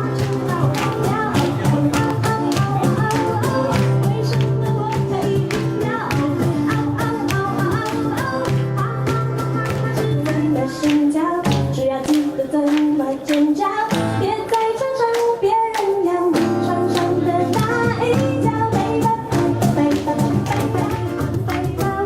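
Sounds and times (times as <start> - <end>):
person singing: 0.0 - 22.0
upbeat band accompaniment: 0.0 - 22.0.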